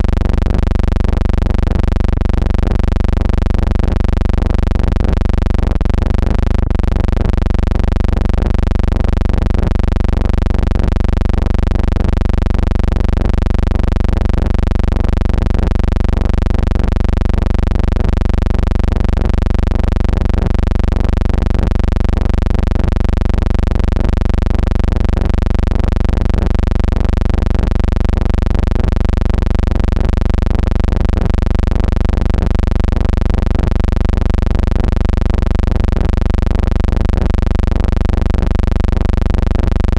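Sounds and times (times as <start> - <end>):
loud steady low hum: 0.0 - 39.9.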